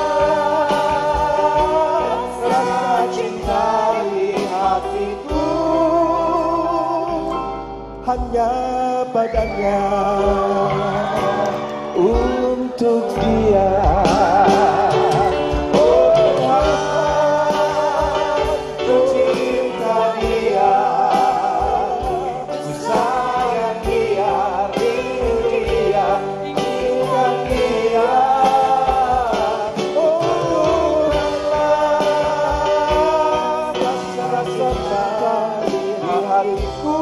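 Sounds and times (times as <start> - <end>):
singers holding long sung line: 0.0 - 7.7, 8.4 - 37.0
pop band playing ballad: 0.0 - 37.0.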